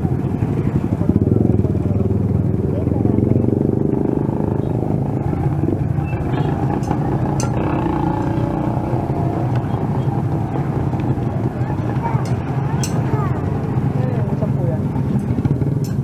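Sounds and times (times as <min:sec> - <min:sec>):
motorcycle engine rumbling: 0:00.0 - 0:16.0
street traffic: 0:00.0 - 0:16.0.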